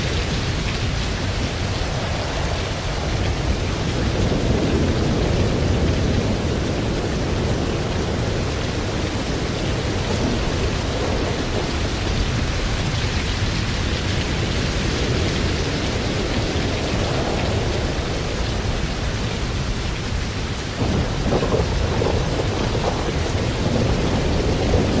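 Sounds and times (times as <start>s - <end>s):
heavy rain: 0.0s - 25.0s
strong wind on microphone: 0.0s - 25.0s.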